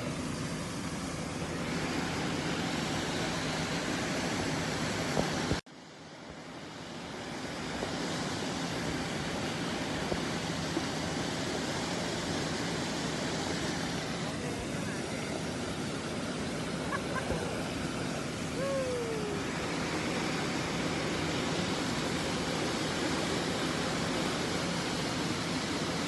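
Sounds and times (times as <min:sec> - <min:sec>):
mudflow rushing down river channel: 0:00.0 - 0:26.0.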